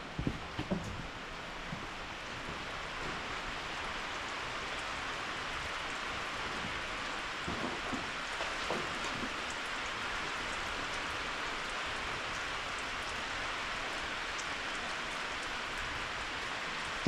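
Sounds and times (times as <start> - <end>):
steady rain hiss: 0.0 - 17.0
rain drop ticks: 1.6 - 17.0.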